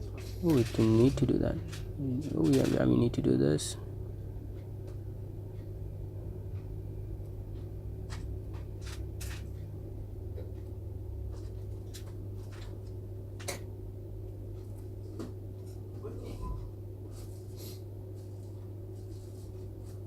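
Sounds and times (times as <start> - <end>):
low equipment hum: 0.0 - 20.0.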